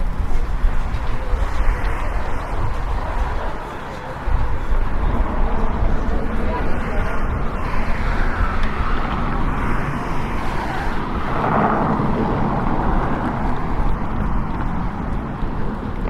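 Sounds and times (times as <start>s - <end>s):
traffic noise: 0.0s - 16.0s
vehicle passing: 0.0s - 16.0s.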